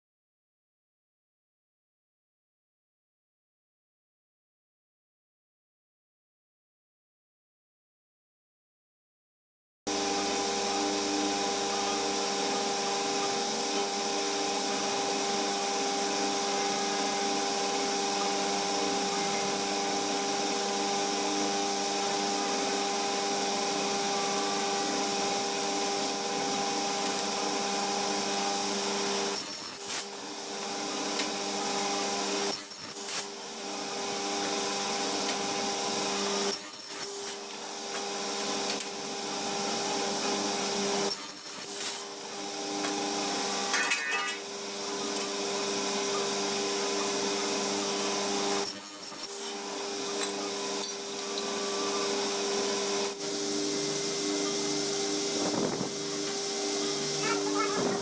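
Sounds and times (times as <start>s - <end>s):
power tool motor humming: 9.9s - 58.0s.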